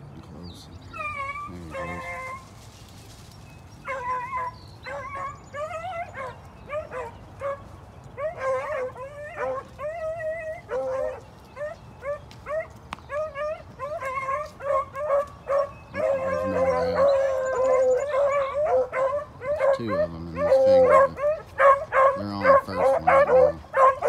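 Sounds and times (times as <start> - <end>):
dogs baying: 0.8 - 2.6, 3.8 - 24.0.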